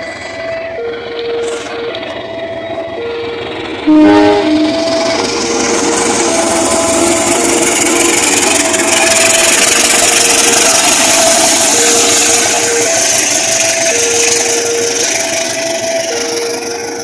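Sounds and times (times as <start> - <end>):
alternating warning tones: 0.0 - 17.0
train wheels rushing on rails: 0.0 - 17.0.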